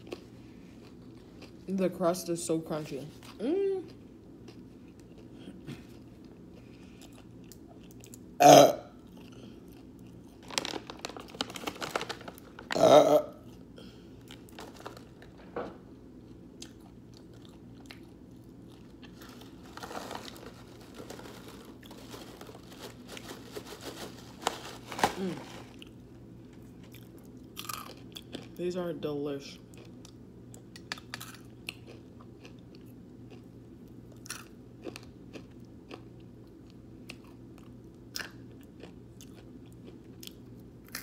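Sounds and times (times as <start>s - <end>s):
crunchy sandwich chewing: 0.0s - 1.6s, 3.2s - 8.3s, 9.0s - 28.6s, 29.7s - 41.0s.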